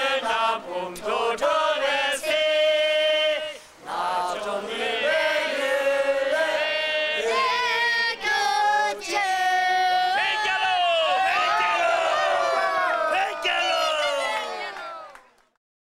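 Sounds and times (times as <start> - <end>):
group of voices singing: 0.0 - 13.7.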